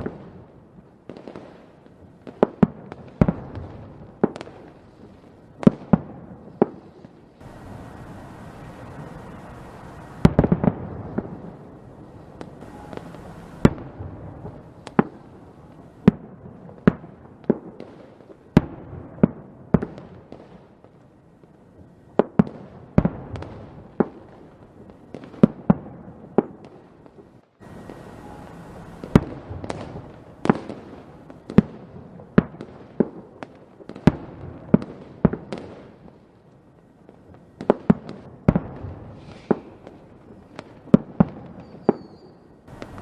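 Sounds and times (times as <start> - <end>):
distant fireworks rumble and crackle: 0.0 - 43.0
fireworks bangs: 0.0 - 43.0.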